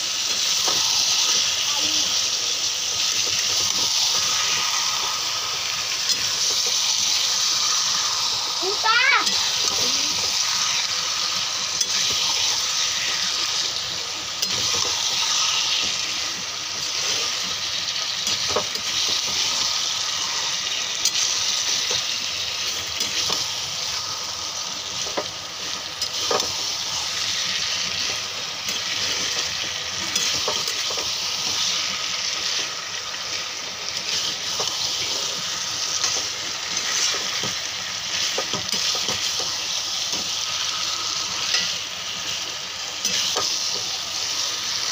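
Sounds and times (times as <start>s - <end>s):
chicken and potato sizzling in oil: 0.0s - 44.9s.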